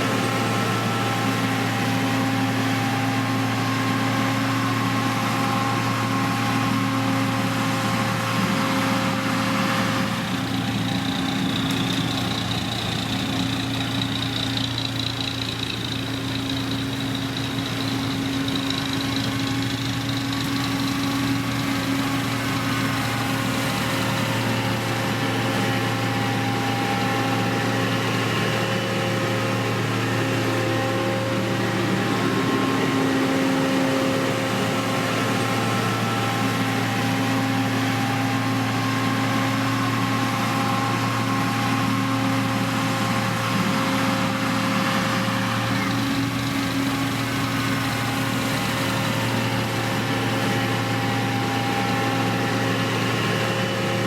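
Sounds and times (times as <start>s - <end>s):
diesel engine of heavy machinery: 0.0s - 54.0s.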